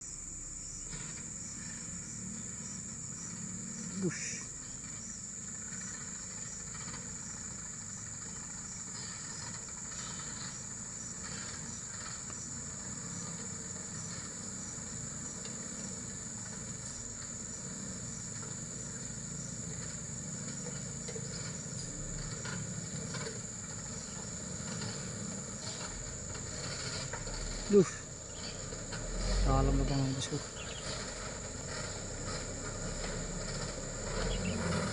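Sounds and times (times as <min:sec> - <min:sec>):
high-pitched insect chorus: 0:00.0 - 0:34.9
truck engine rumbling: 0:00.0 - 0:34.9.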